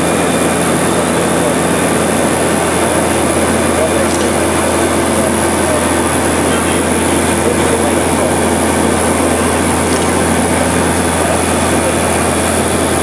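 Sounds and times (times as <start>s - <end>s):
propeller engines droning: 0.0s - 13.0s.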